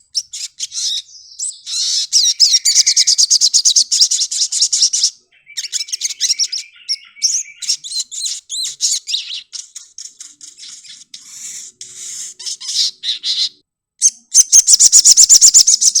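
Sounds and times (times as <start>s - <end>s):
sharp repeated bird notes: 0.0s - 16.0s
sunbird singing: 0.0s - 16.0s.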